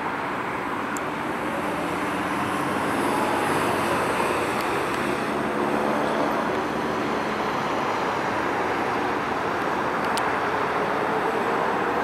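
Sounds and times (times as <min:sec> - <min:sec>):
distant jet engine roar: 0:00.0 - 0:12.0.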